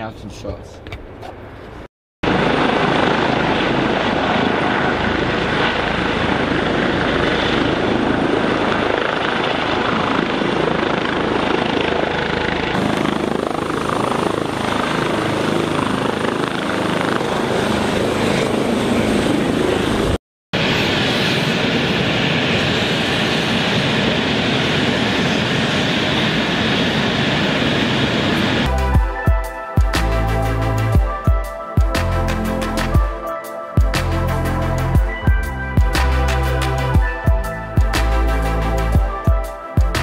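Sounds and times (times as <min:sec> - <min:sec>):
aircraft engine noise: 0:00.8 - 0:40.0.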